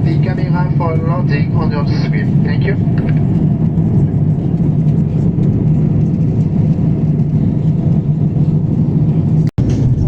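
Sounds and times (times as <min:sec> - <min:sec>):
airplane cabin drone: 0:00.0 - 0:10.0.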